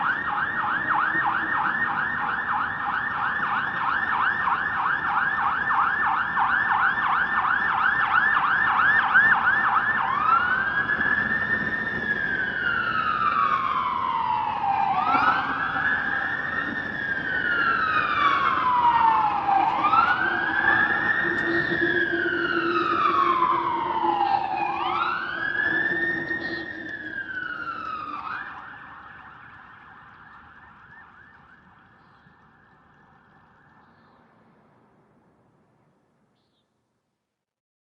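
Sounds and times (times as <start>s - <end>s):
emergency siren yelp and wail: 0.0s - 35.4s.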